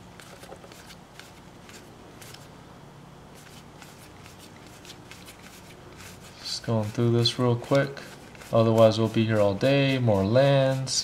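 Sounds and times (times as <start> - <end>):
trading cards flicking and sliding: 0.0 - 2.5, 3.3 - 11.0.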